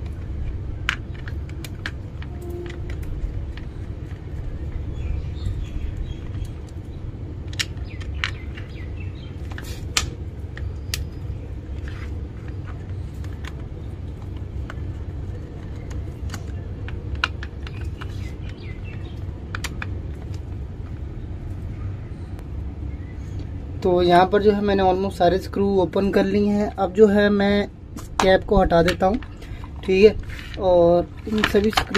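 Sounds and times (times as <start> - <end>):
steady low rumble: 0.0 - 31.9.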